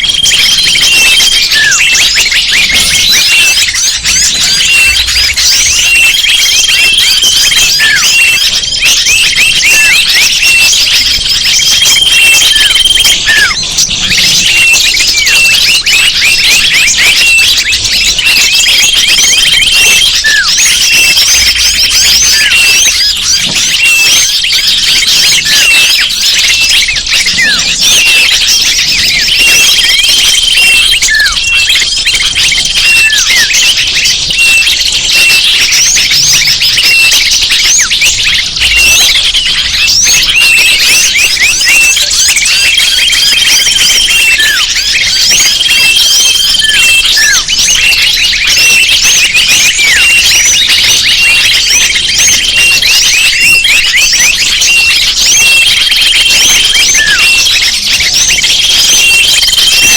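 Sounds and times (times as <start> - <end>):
high whistles: 0.0 - 59.9
small birds chirping: 0.0 - 59.9.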